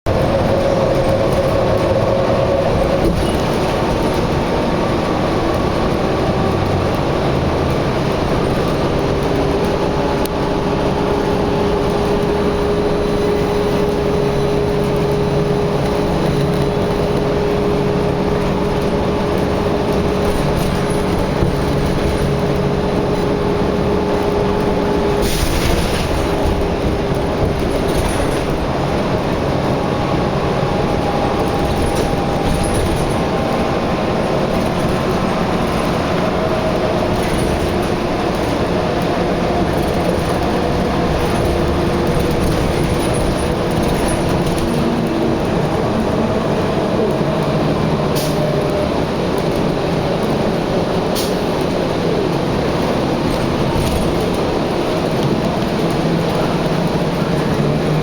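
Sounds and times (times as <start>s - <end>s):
vehicle rumble: 0.0s - 58.0s.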